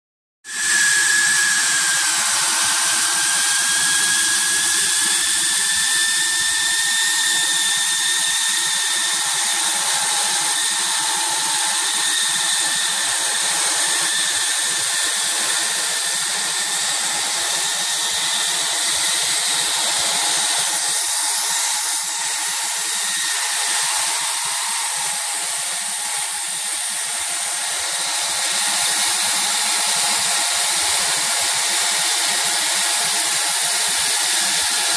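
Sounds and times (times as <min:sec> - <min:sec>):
hot air hissing from nozzle: 0:00.5 - 0:34.9
machine whine: 0:00.5 - 0:34.9.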